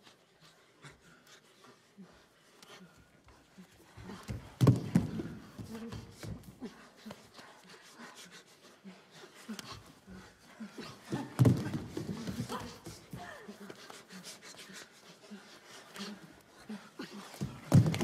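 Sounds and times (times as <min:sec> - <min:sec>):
heavy breathing: 0:00.0 - 0:18.0.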